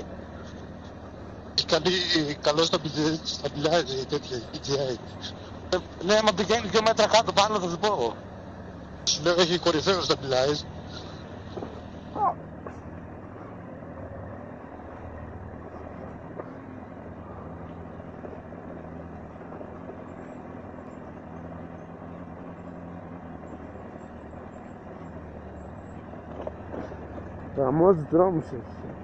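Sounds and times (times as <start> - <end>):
motorcycle engine at low revs: 0.0 - 29.0
road noise: 0.0 - 29.0.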